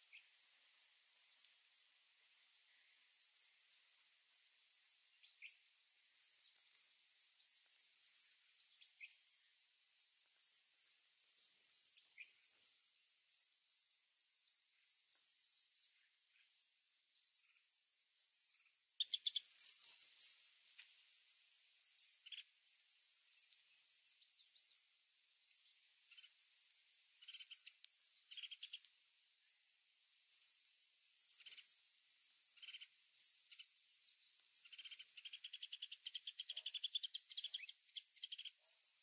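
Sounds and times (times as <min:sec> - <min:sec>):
nestlings chirping: 0:04.7 - 0:17.6, 0:18.2 - 0:21.1, 0:21.8 - 0:39.0.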